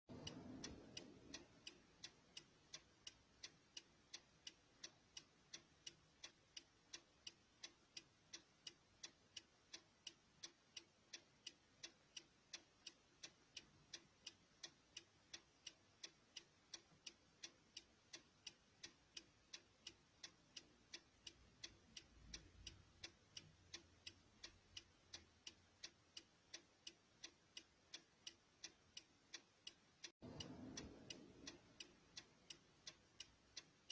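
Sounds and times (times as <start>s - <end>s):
car turn signal ticking: 0.1s - 33.9s.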